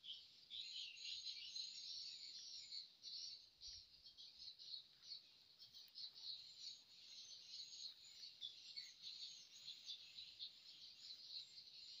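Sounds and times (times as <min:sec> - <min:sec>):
birds and insects chirping: 0:00.0 - 0:12.0.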